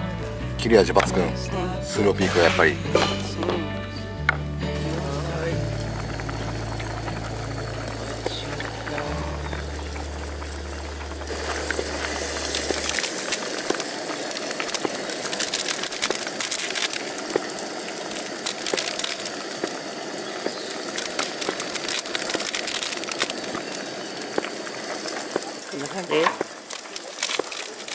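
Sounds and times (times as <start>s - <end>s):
camp stove: 0.0s - 27.9s
soup bubbling in pot: 5.4s - 27.9s.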